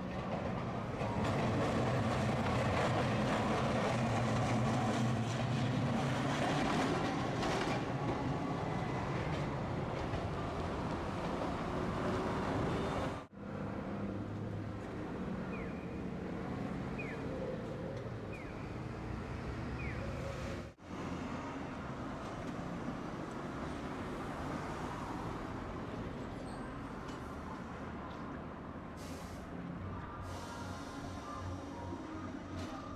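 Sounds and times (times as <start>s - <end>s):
street traffic: 0.0s - 32.9s.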